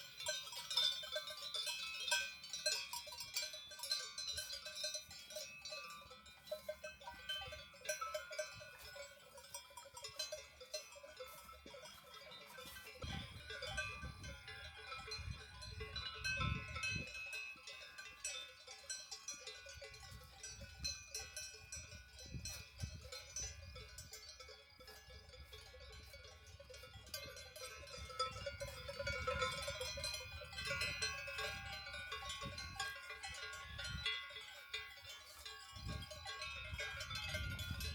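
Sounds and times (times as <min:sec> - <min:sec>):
cowbells clanking: 0:00.0 - 0:37.9.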